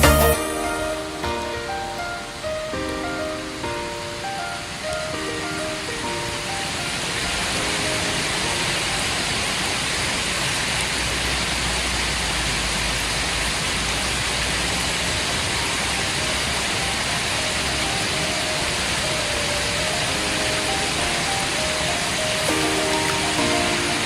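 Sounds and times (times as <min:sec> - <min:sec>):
fountain water splashing: 0:00.0 - 0:24.0.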